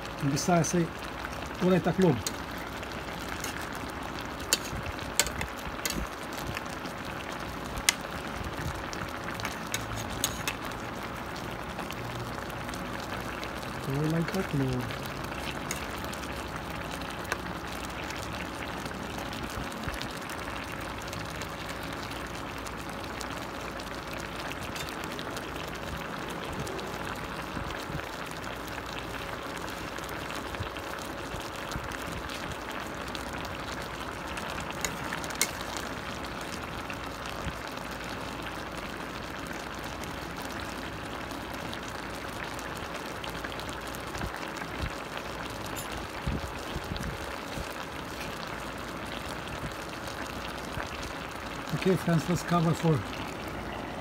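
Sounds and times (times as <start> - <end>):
sauce boiling in a pot: 0.0 - 54.0.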